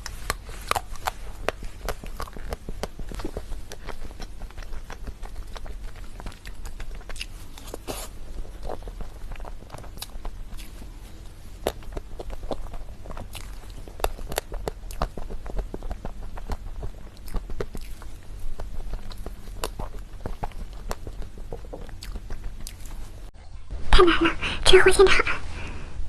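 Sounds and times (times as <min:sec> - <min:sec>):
crunchy biting and chewing: 0:00.0 - 0:23.3.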